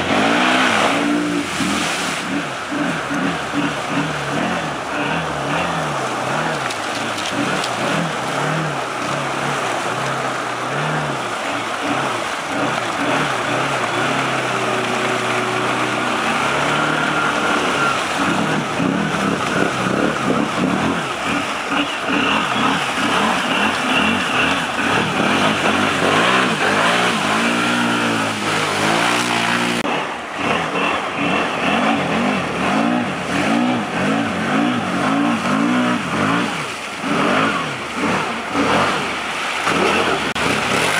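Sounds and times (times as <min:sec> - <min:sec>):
atv engine revving: 0:00.0 - 0:40.9
quad churning through mud: 0:00.0 - 0:40.9.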